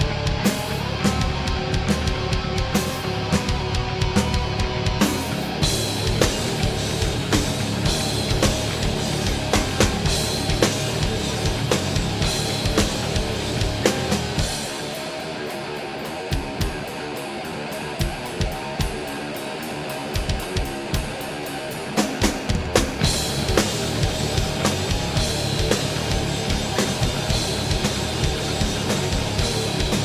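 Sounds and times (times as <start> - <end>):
hard rock band playing: 0.0 - 30.0.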